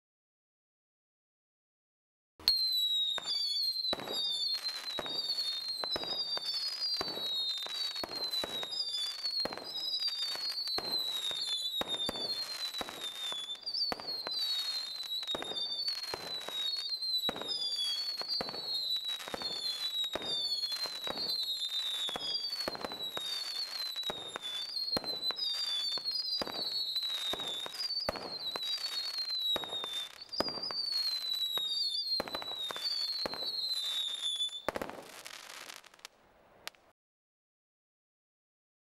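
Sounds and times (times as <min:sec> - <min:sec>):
firework whistles: 0:02.4 - 0:36.8
firework pops and crackles: 0:02.4 - 0:37.0.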